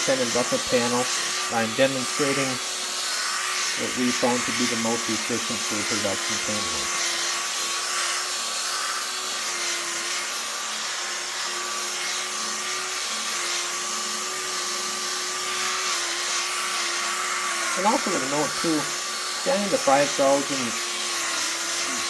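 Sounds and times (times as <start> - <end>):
rotary buffer motor whine: 0.0 - 22.0.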